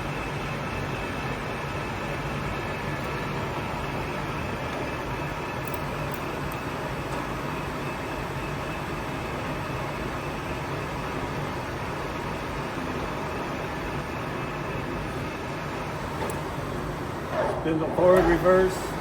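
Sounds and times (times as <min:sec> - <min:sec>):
lathe running with low hum and whine: 0:00.0 - 0:19.0.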